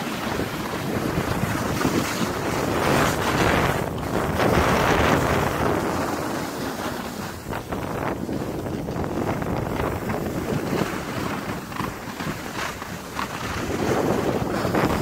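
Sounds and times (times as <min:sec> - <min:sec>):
snowboard sliding over packed snow: 0:00.0 - 0:15.0
wind buffeting microphone: 0:00.0 - 0:15.0.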